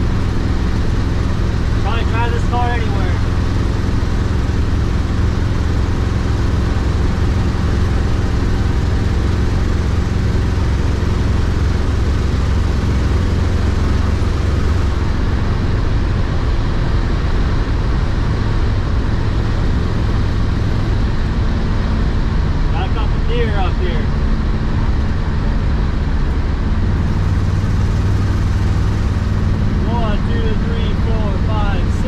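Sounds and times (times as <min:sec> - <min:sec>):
car engine running: 0:00.0 - 0:32.0
road noise: 0:00.0 - 0:32.0.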